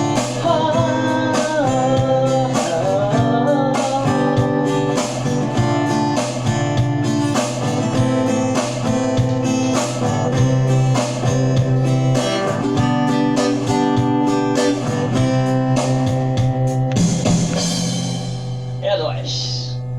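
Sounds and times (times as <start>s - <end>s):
strummed acoustic guitar: 0.0s - 19.9s.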